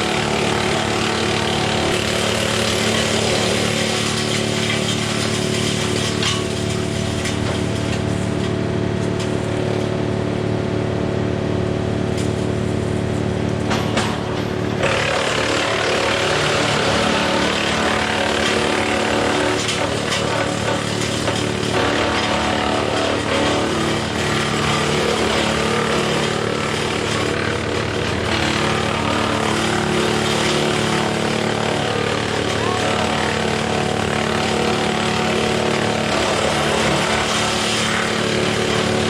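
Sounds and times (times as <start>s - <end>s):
wood chipper grinding branches: 0.0s - 39.0s.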